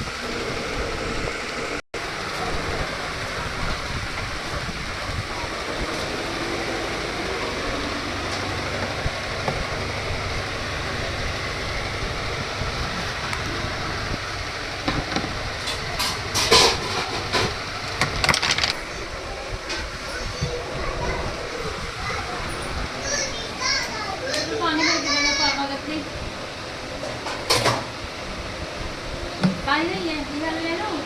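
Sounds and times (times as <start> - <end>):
washing machine running: 0.0 - 31.0.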